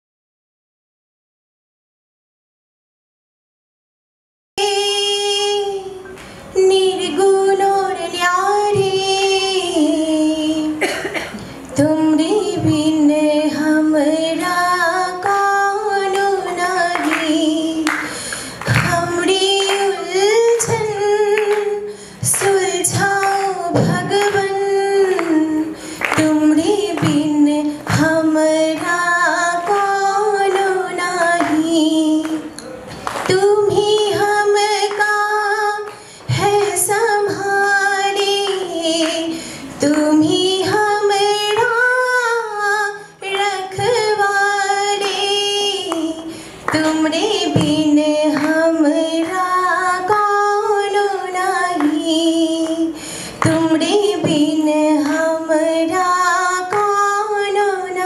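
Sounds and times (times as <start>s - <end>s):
woman singing into a microphone: 4.6s - 58.0s.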